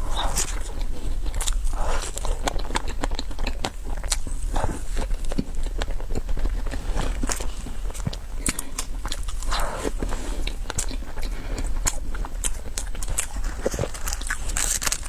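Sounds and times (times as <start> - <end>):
close-miked chewing with mouth clicks: 0.0 - 15.0.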